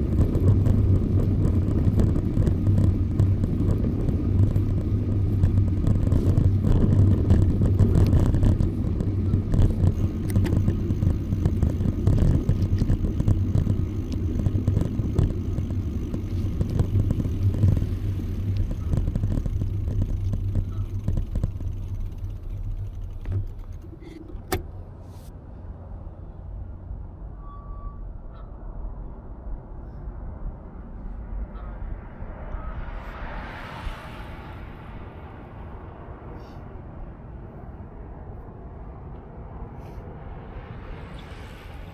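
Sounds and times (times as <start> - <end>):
motor traffic rumbling: 0.0 - 41.9.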